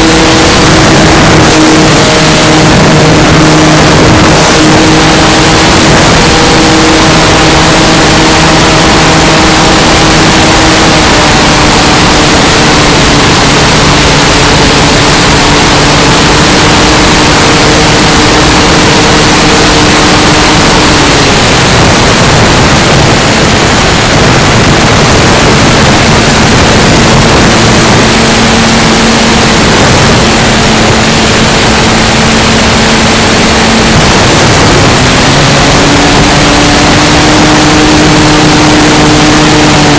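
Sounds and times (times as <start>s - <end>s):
electric motor and propeller: 0.0s - 39.9s
wind rush: 0.0s - 39.9s.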